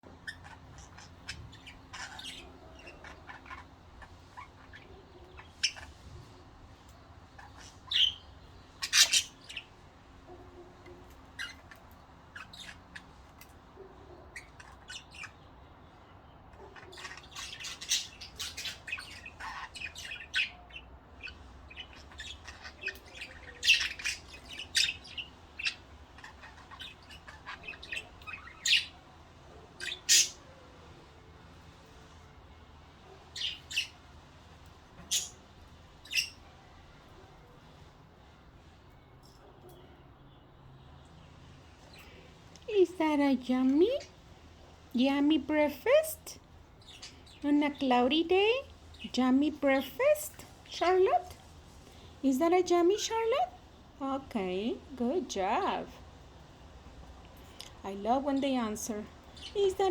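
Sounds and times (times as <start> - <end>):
budgerigars chirping and squawking: 0.0 - 31.0, 32.8 - 39.7, 41.3 - 59.9.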